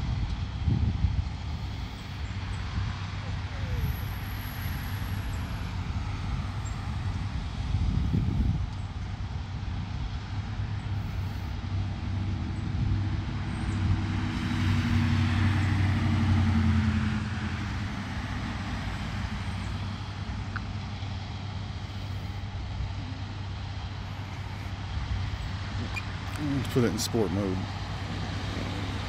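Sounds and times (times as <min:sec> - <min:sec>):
motor vehicle passing by: 0:01.4 - 0:08.6, 0:10.0 - 0:29.0.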